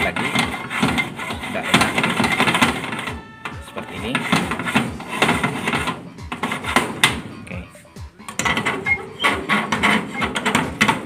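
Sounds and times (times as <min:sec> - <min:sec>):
metal bolt clacking and scraping: 0:00.0 - 0:07.6, 0:08.2 - 0:11.0.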